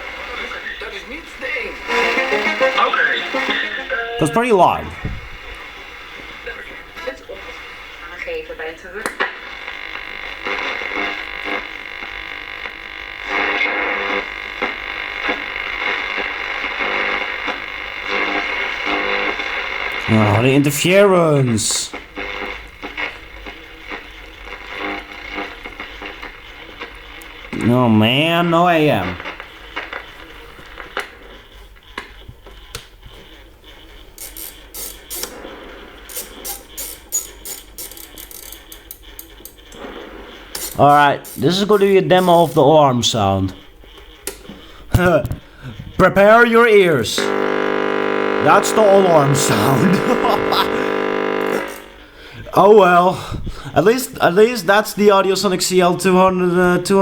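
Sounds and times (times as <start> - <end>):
broken-up radio broadcast: 0.0 - 31.6, 39.7 - 43.9, 44.5 - 57.0
radio static hiss and whine: 0.0 - 56.1.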